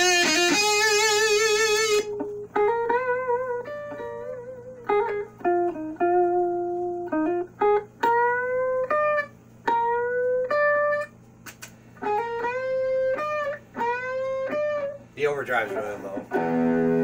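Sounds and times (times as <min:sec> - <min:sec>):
distorted electric guitar lead: 0:00.0 - 0:11.2, 0:12.0 - 0:15.0, 0:15.8 - 0:17.0
low amp hum: 0:00.0 - 0:17.0.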